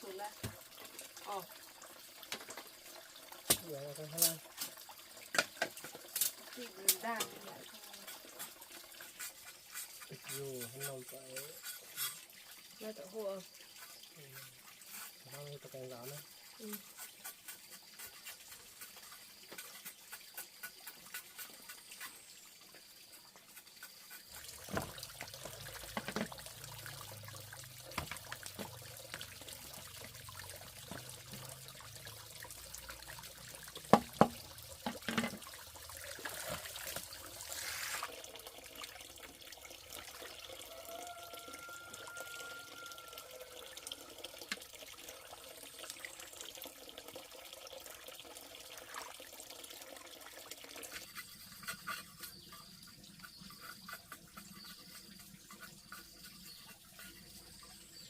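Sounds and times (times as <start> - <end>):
water running and trickling: 0.0 - 58.0.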